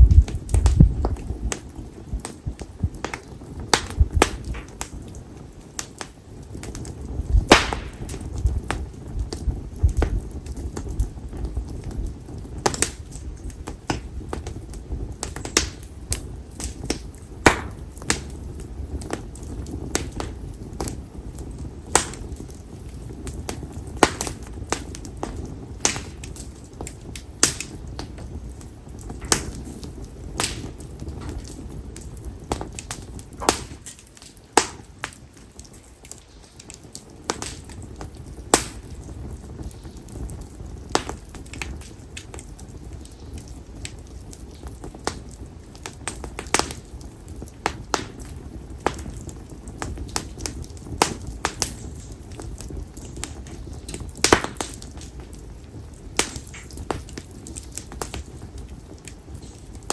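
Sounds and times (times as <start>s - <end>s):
firewood crackling and popping: 0.0s - 59.9s
rush of flames: 0.0s - 59.9s.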